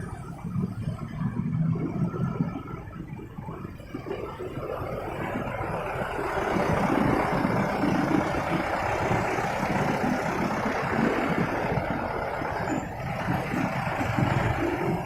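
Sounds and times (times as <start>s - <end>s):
motorcycle engine and road noise: 0.0s - 15.0s.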